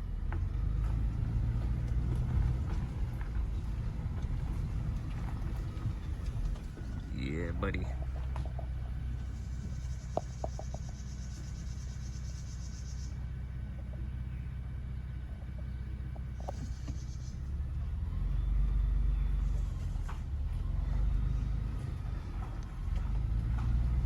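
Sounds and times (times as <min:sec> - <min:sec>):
vehicle driving on road: 0:00.0 - 0:24.0.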